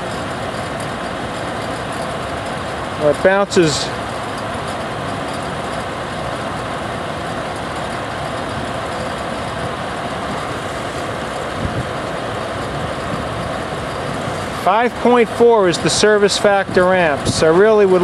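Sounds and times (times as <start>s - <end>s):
exhaust fan running: 0.0s - 18.0s.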